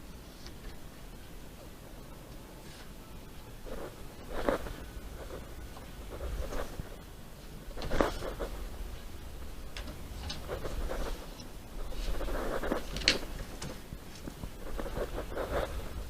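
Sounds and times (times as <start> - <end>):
scraping and rustling: 2.6 - 16.0.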